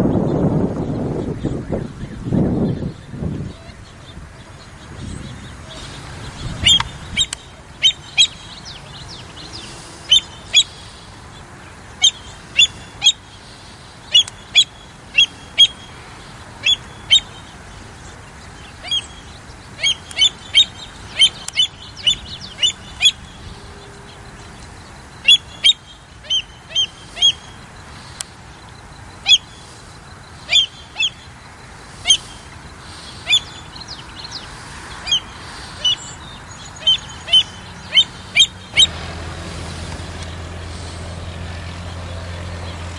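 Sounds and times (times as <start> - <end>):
birds calling high sharp notes: 0.0 - 42.9.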